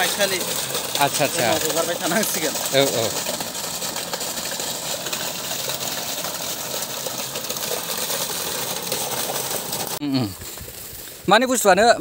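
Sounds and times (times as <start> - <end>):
electric pump motor running: 0.0 - 10.0
water gushing from pipe: 0.0 - 11.8.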